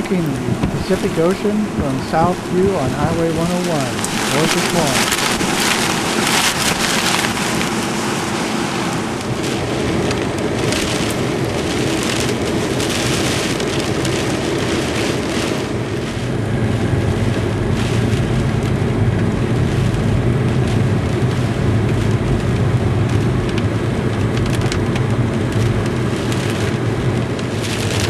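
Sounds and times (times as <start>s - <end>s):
deep rumble: 0.0s - 28.0s
heavy rain: 0.0s - 28.0s
strong storm wind: 0.0s - 28.0s.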